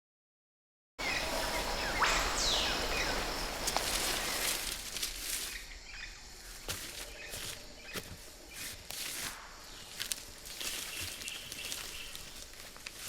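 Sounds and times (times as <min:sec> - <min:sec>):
bird-like chirps: 0:01.0 - 0:04.7, 0:05.4 - 0:12.5.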